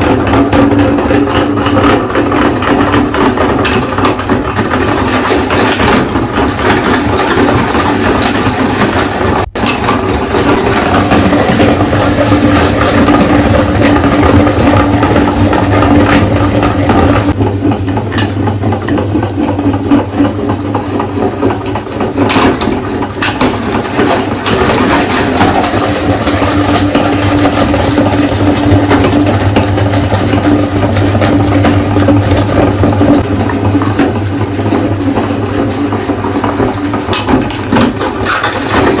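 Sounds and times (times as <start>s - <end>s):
electric meat grinder motor humming: 0.0s - 37.1s
hard candy cracking in grinder: 0.0s - 39.0s.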